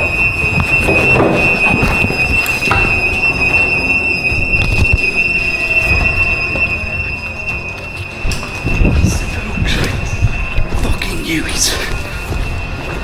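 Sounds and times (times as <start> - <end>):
building alarm high-pitched tone: 0.0 - 13.0
rustling and knocks of movement: 0.0 - 13.0.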